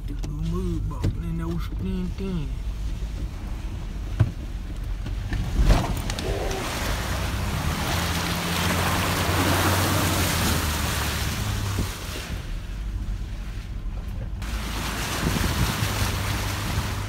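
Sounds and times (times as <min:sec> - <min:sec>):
truck engine humming: 0:00.0 - 0:17.0
water splashing against truck: 0:00.7 - 0:17.0.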